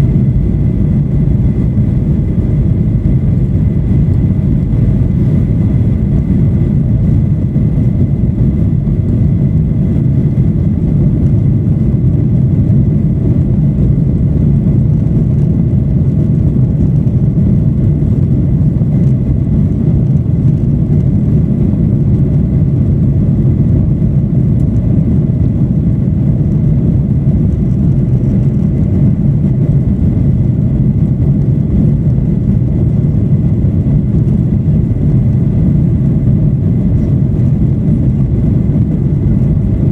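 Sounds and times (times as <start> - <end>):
faint steady whine: 0.0 - 39.9
jet cabin engine rumble: 0.0 - 39.9.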